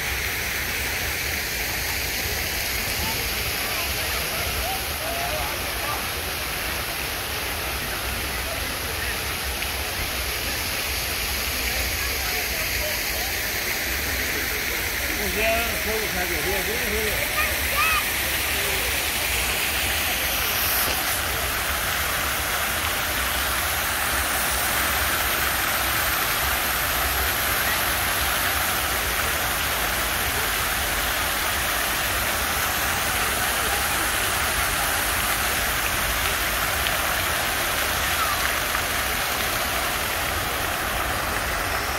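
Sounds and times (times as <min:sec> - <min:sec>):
fountain water splashing: 0:00.0 - 0:41.9.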